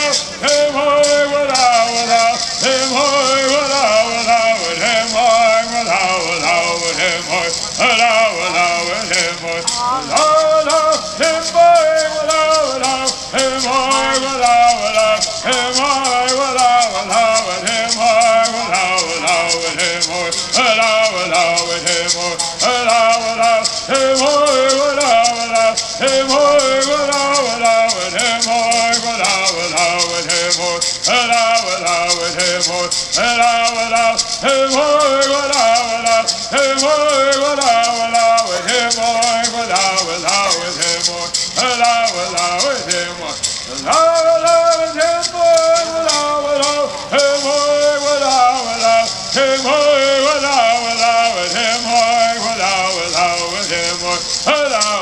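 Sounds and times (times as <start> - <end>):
gourd rattles shaking: 0.0 - 55.0
voices singing: 0.0 - 55.0.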